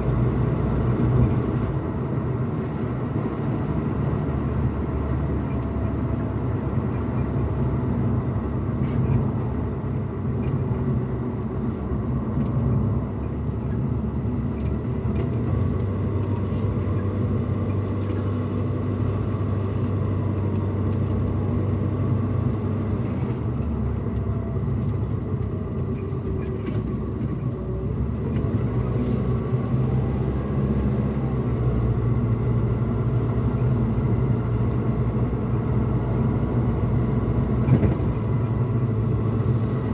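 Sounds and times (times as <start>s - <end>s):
tyre and engine rumble in truck cabin: 0.0s - 39.9s.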